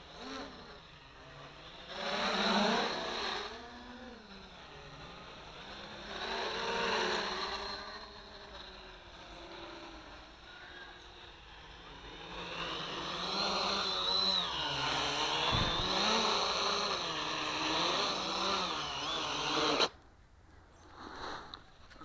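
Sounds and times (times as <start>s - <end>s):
drone propellers buzzing: 0.0s - 19.9s.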